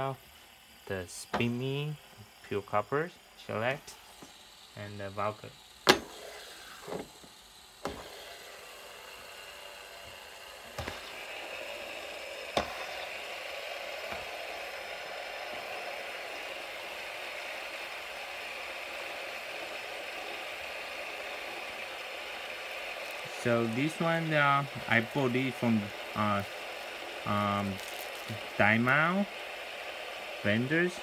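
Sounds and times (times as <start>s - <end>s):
fidget spinners whirring: 0.0s - 31.0s.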